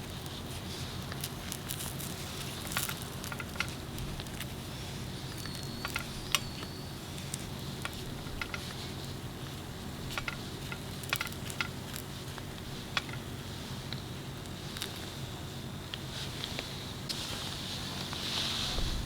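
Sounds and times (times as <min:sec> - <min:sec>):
sharp crackles and pops: 0:00.0 - 0:19.0.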